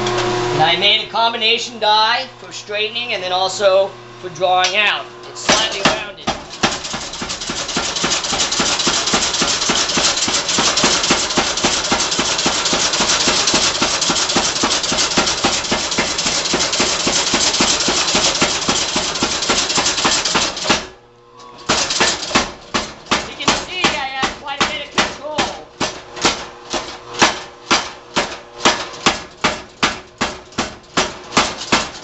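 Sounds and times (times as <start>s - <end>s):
power hammer pounding hot steel: 4.6s - 32.0s.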